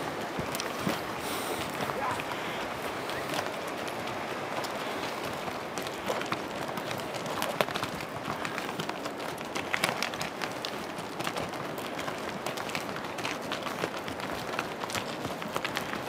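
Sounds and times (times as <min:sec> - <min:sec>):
hooves clattering on gravel: 0:00.0 - 0:16.0.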